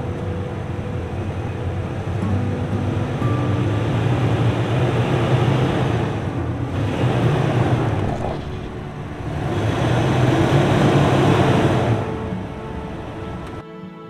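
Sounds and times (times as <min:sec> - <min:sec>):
truck engine running: 0:00.0 - 0:13.6.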